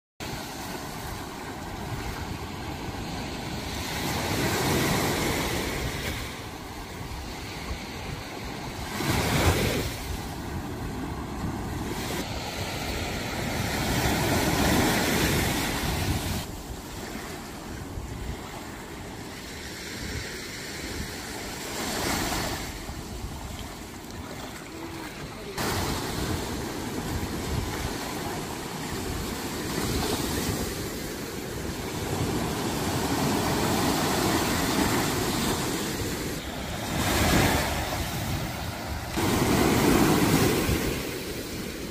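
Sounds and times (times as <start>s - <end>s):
waves washing on shore: 0.2s - 41.9s.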